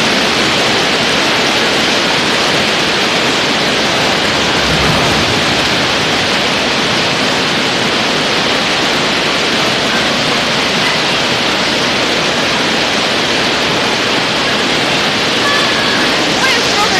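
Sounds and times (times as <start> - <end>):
heavy rain and hail: 0.0 - 16.9.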